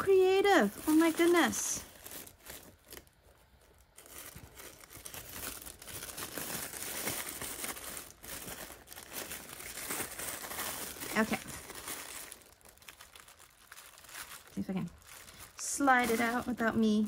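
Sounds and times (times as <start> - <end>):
tissue paper crinkling: 0.0 - 17.0.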